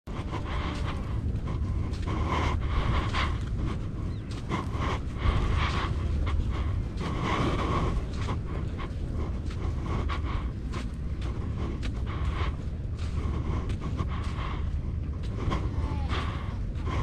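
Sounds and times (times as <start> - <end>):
footsteps on sand: 0.1 - 17.0
person panting: 0.1 - 17.0
wind rumble on microphone: 0.1 - 17.0.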